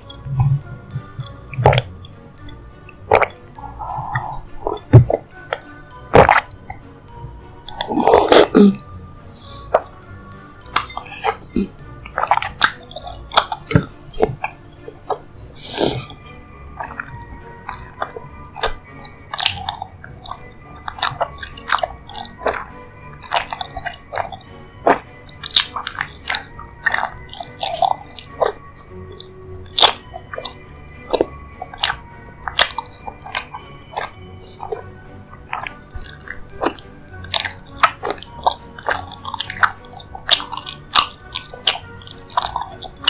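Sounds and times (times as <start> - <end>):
person chewing and crunching: 0.0 - 43.0
soft background music: 0.0 - 43.0.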